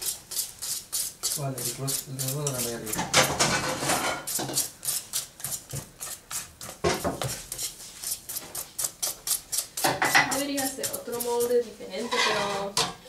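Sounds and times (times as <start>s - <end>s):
spoon scraping metal pot: 0.0s - 12.8s.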